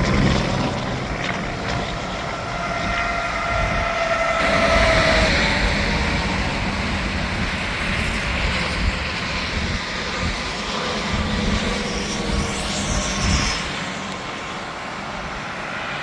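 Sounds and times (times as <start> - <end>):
highway traffic passing: 0.0 - 16.0.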